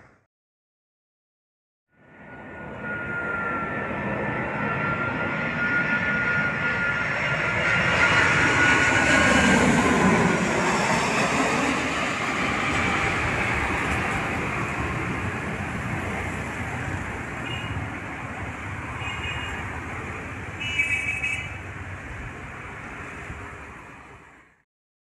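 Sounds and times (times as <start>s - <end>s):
road traffic: 1.9s - 24.6s
jet airliner engine roar: 2.0s - 24.6s.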